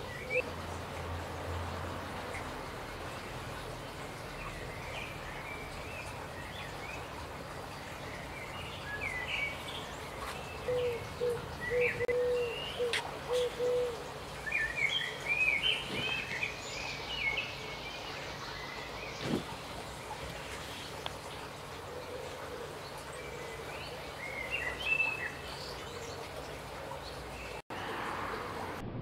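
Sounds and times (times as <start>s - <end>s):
birds chirping and twittering: 0.0s - 27.6s.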